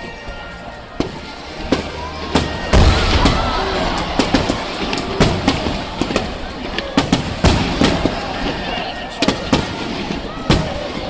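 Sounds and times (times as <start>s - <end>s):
music: 0.0s - 11.0s
fireworks bangs and crackles: 1.0s - 11.0s.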